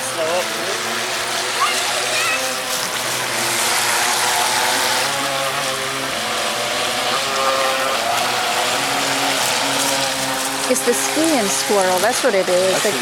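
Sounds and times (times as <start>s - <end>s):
toy boat electric motors humming: 0.0s - 13.0s.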